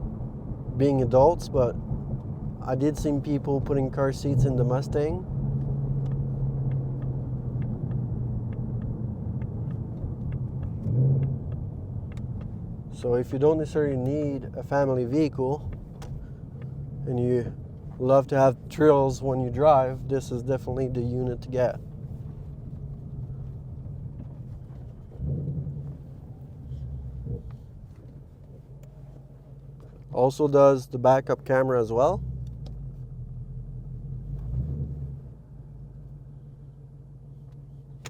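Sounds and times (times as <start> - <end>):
car engine humming: 0.0 - 38.0.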